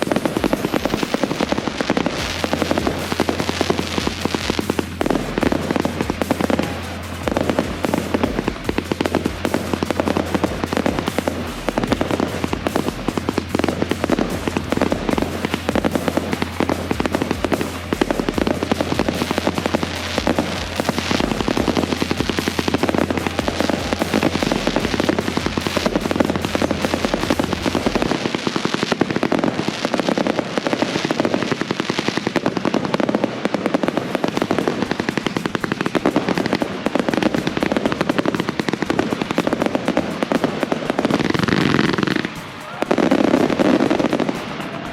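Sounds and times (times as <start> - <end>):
fireworks banging and crackling: 0.0 - 44.9
music with low bass: 0.0 - 44.9.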